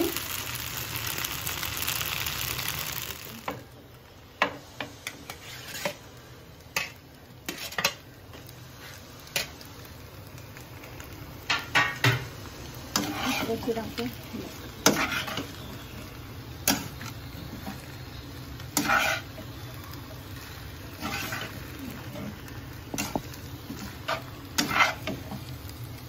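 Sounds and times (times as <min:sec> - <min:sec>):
noodles sizzling in a wok: 0:00.0 - 0:26.0.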